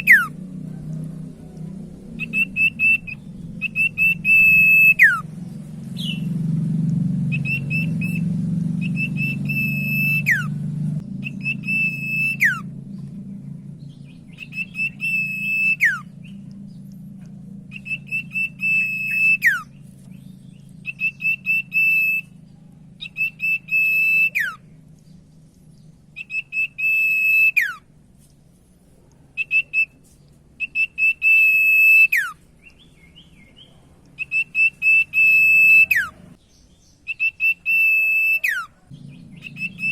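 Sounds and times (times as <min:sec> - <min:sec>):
bird whistled song: 0:00.0 - 0:00.4, 0:02.1 - 0:06.4, 0:07.2 - 0:17.0, 0:17.6 - 0:27.9, 0:29.4 - 0:39.9
low hum: 0:00.0 - 0:36.5, 0:38.8 - 0:39.9.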